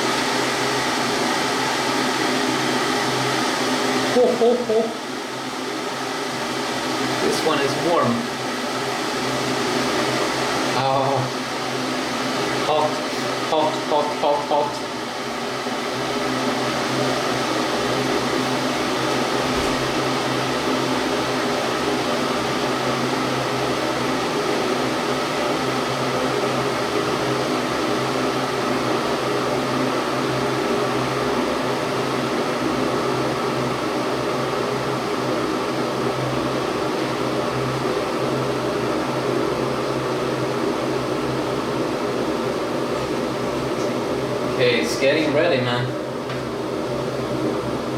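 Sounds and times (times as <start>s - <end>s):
water heater hissing and humming: 0.0s - 47.9s.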